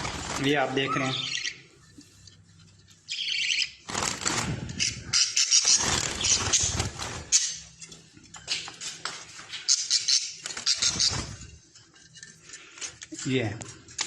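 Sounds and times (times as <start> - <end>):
parrot chicks chirping and squawking: 0.0 - 13.2.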